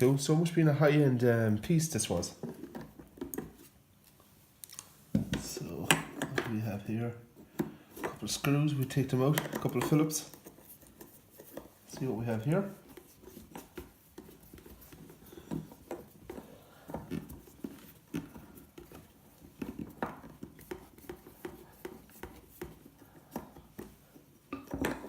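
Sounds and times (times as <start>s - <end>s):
plastic parts clicking and knocking: 2.4s - 3.7s, 5.1s - 6.7s, 7.4s - 25.0s.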